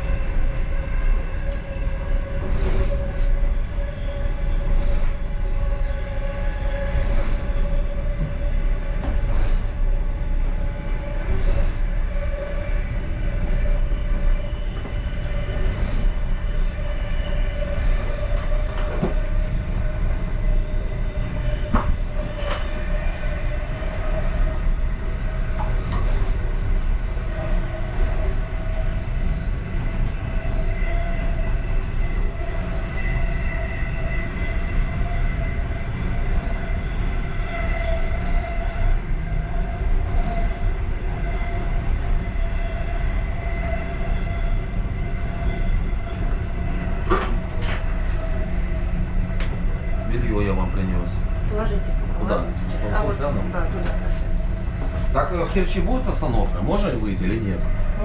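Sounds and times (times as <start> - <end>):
steady whine: 0.0 - 58.0
train wheels rumbling on track: 0.0 - 58.0.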